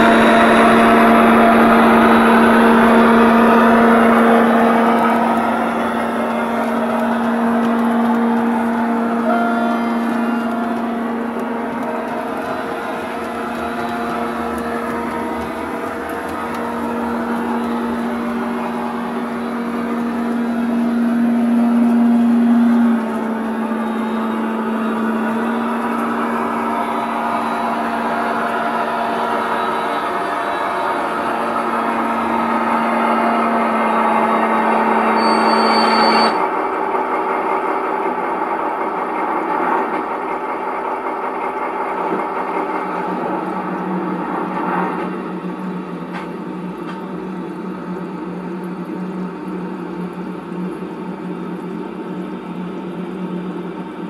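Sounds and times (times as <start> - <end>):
model diesel engine sound humming: 0.0 - 54.0.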